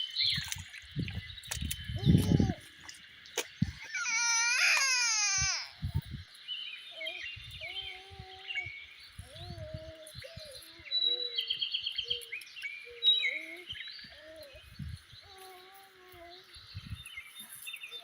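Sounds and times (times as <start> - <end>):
wild birds chirping: 0.0 - 18.0.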